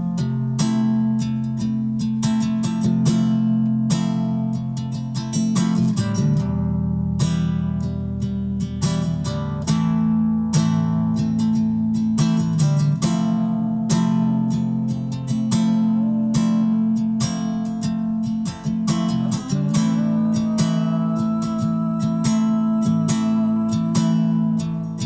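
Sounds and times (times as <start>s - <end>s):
acoustic guitar strummed and picked: 0.0s - 25.0s.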